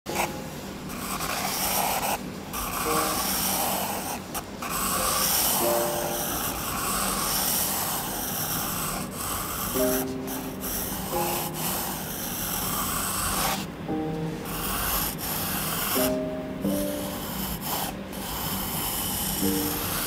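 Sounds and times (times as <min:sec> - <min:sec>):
pencil scratching on paper: 0:00.1 - 0:13.7, 0:14.3 - 0:20.0.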